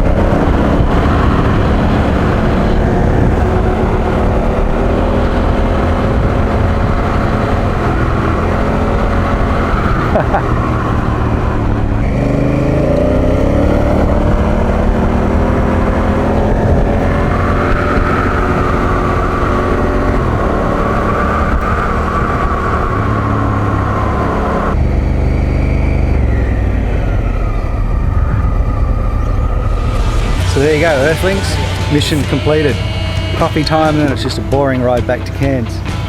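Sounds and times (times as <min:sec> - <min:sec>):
wind rushing: 0:00.0 - 0:34.6
motorcycle engine accelerating: 0:00.0 - 0:36.0.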